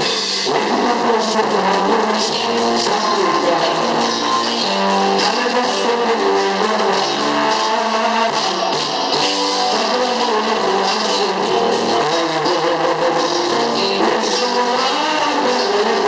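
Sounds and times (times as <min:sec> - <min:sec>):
keyboard: 0:00.0 - 0:16.0
man singing into a microphone: 0:00.0 - 0:16.0.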